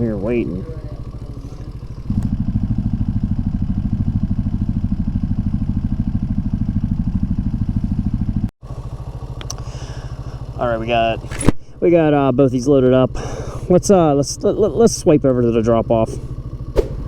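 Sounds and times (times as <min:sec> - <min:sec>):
mini motorcycle engine idling: 0:00.0 - 0:17.0.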